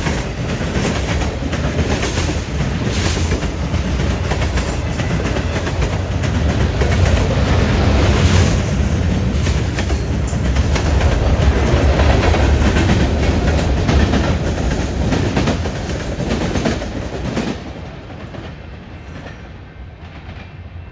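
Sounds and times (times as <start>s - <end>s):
train wheels clacking over rails: 0.0s - 20.6s.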